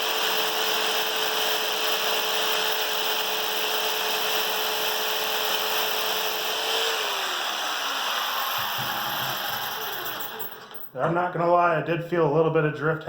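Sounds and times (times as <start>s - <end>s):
jigsaw sawing through wood: 0.0s - 10.8s.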